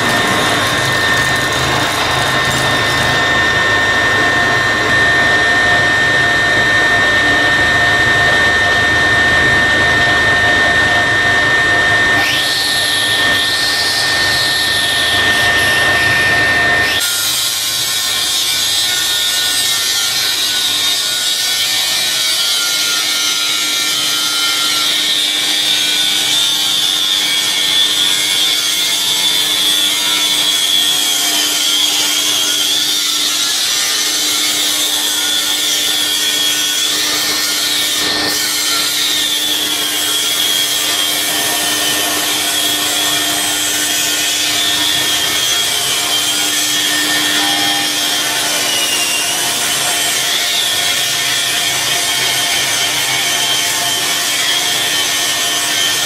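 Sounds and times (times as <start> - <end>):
flywheel rig rasping and whining: 0.0 - 16.4, 21.8 - 56.0.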